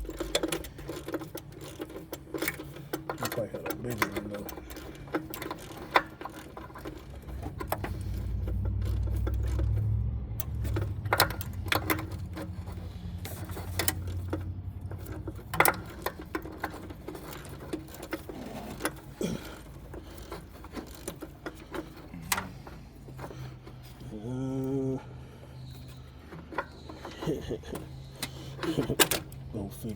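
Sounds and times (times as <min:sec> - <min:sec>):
hand tools clinking on metal: 0:00.0 - 0:29.9.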